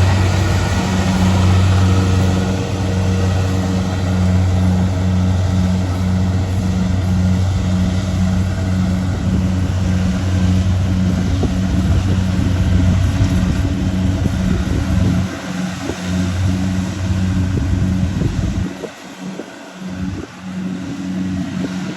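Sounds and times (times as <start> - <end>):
combine harvester engine humming: 0.0 - 21.9.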